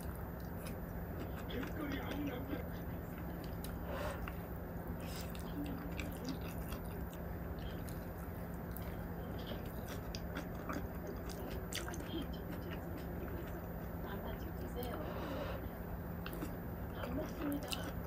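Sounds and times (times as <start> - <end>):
person chewing food: 0.0 - 18.0
steady low hum: 0.0 - 18.0.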